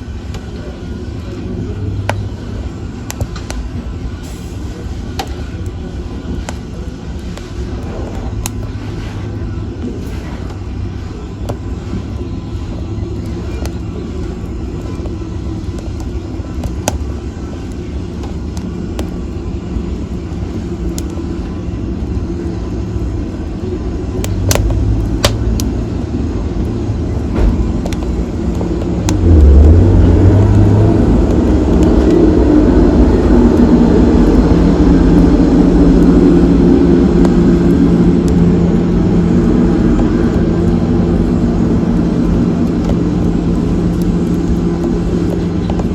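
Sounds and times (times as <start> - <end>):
fire crackling and popping: 0.0 - 45.9
wood fire roaring: 0.0 - 45.9.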